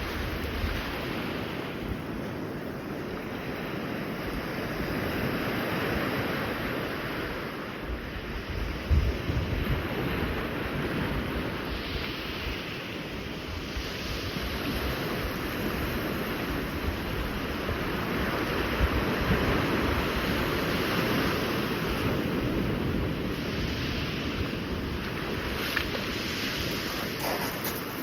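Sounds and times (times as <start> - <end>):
sea waves washing on shore: 0.0 - 28.0
wind buffeting microphone: 0.0 - 28.0.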